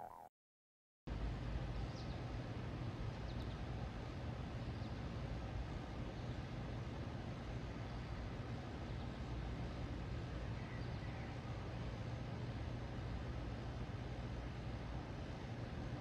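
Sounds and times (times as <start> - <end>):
low outdoor rumble: 1.1 - 16.0.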